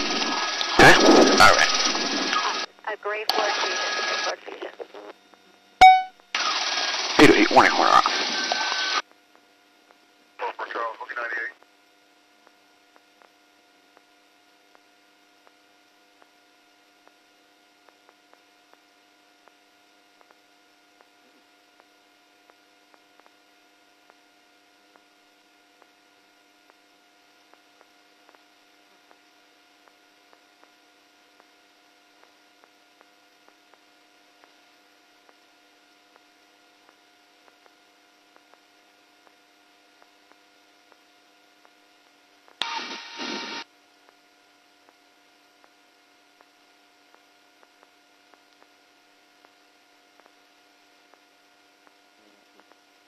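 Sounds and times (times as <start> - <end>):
faint electrical hum and hiss: 0.0 - 53.0.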